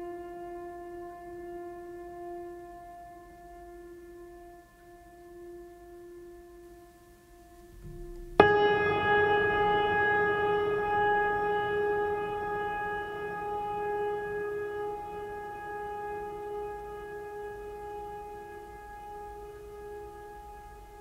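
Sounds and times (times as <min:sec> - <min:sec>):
mellow instrumental music: 0:00.0 - 0:21.0.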